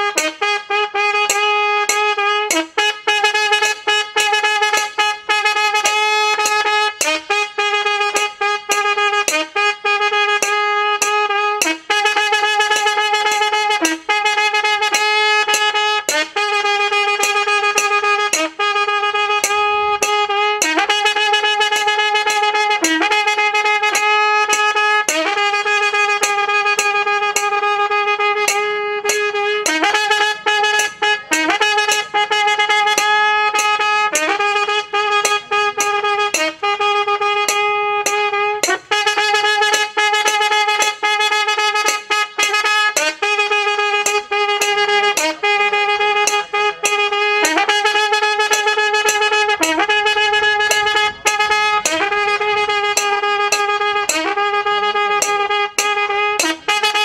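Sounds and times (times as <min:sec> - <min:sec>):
brass horn long held notes: 0:00.0 - 0:57.0
small cymbals striking: 0:00.1 - 0:57.0.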